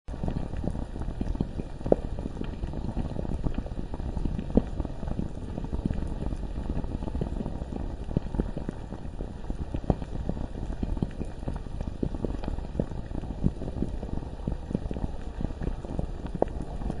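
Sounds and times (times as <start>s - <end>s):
lava bubbling and popping: 0.1s - 17.0s
low rumble: 0.1s - 17.0s.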